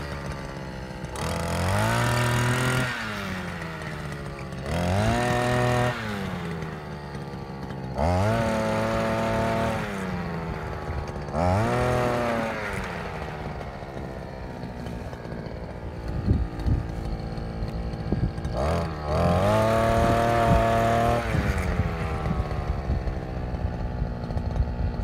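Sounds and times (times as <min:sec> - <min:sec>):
brush cutter engine revving: 0:00.0 - 0:25.0.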